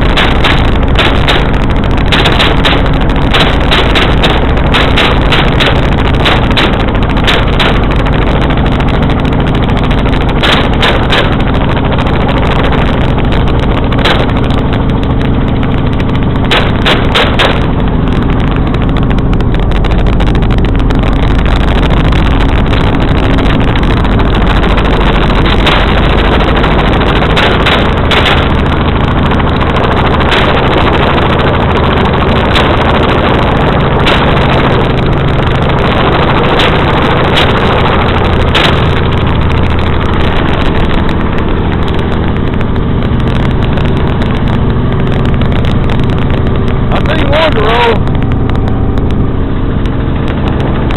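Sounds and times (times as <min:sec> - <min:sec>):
helicopter running: 0:00.0 - 0:50.9
sharp cracks: 0:00.0 - 0:50.9.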